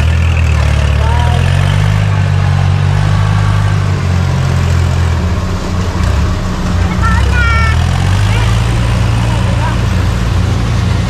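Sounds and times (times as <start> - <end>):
harvesting machine engine droning: 0.0 - 11.0.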